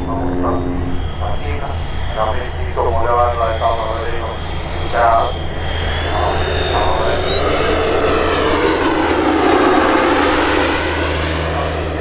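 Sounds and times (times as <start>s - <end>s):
electric ducted fans whining: 0.0s - 12.0s.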